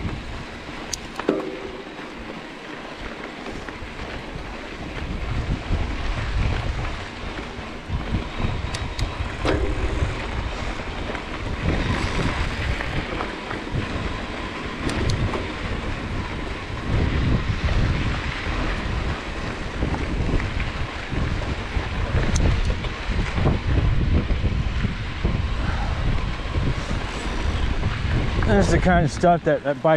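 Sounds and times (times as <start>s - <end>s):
bike tyres crunching on gravel: 0.0s - 29.9s
gravel ticks and bike rattle: 0.0s - 29.9s
wind buffeting microphone: 0.0s - 29.9s.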